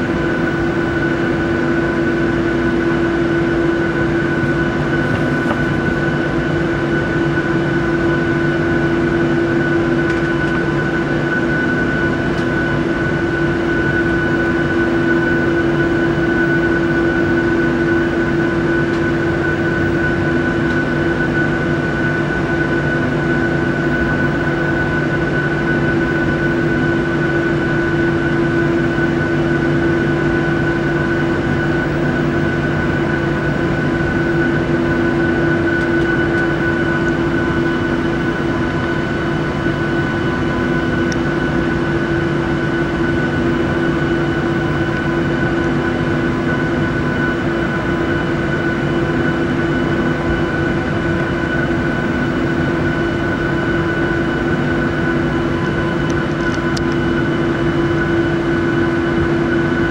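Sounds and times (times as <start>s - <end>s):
high engine whine: 0.0s - 59.9s
jet engines humming in cabin: 0.0s - 59.9s
low engine drone: 0.0s - 59.9s.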